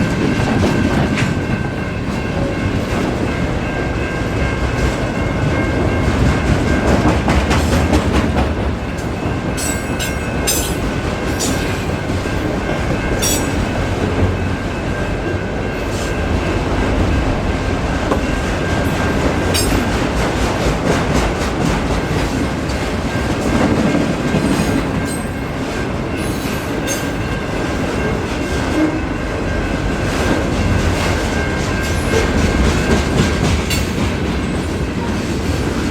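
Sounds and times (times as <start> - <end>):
train wheels rumbling on track: 0.0 - 35.9.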